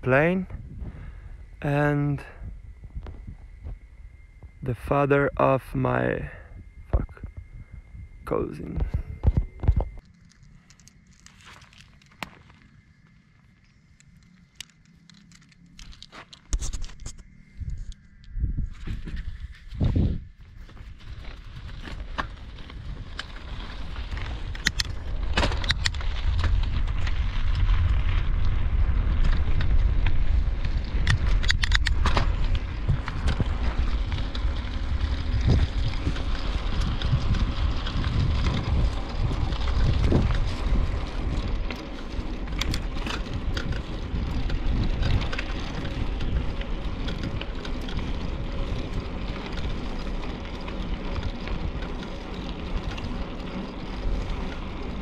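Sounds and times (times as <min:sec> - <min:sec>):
wind rumbling on microphone: 0:00.0 - 0:55.0
bicycle clicks and rattles: 0:08.9 - 0:55.0.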